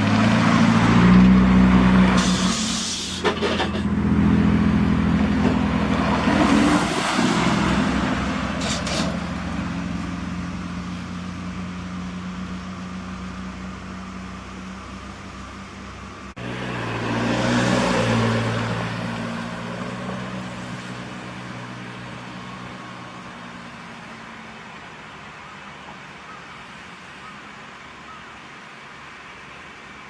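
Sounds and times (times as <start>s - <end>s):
trucks driving past: 0.0s - 30.0s.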